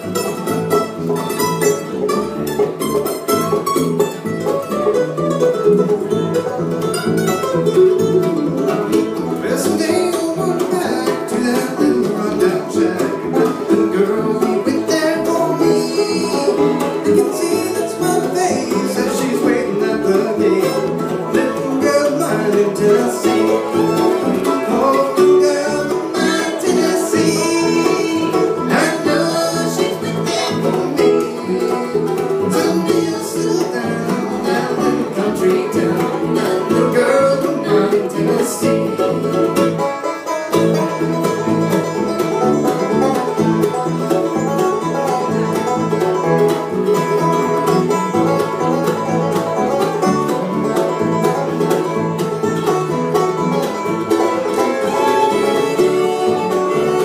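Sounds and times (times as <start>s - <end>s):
acoustic guitar: 0.0s - 57.0s
banjo: 0.0s - 57.0s
fiddle: 0.0s - 57.0s
upright bass: 0.0s - 57.0s.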